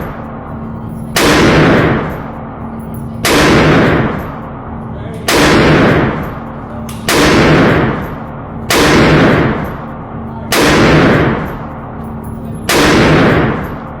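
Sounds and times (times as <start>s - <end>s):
pistol shots ringing indoors: 0.0s - 14.0s.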